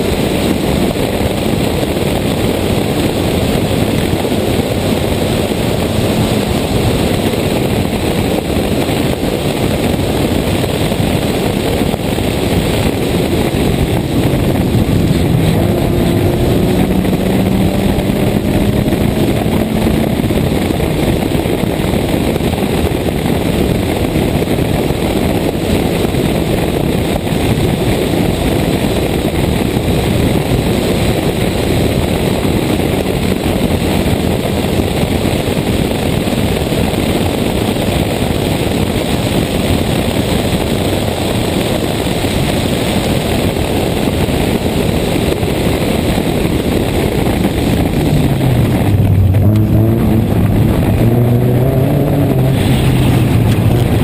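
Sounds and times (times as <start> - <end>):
rally car engine running hard: 0.0 - 54.0
road noise: 0.0 - 54.0
wind noise: 0.0 - 54.0.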